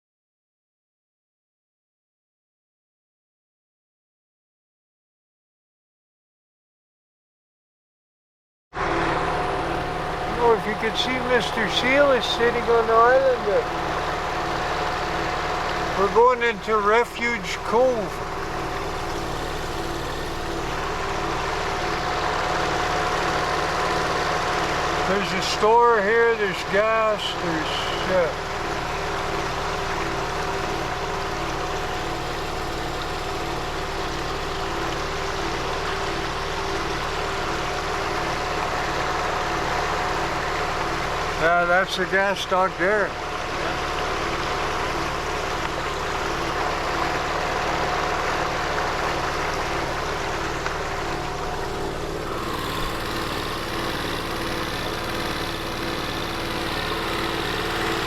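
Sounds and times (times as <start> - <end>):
boat engine droning: 8.8 - 58.0
water rushing along hull: 9.0 - 58.0.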